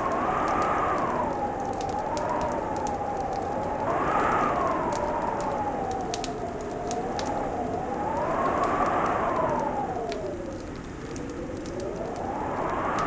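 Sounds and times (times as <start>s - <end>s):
wind howling: 0.0s - 13.0s
wood fire crackling: 0.0s - 13.0s.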